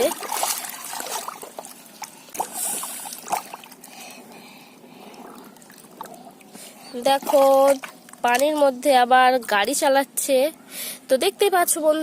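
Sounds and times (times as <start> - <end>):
water trickling and splashing: 0.0 - 9.9.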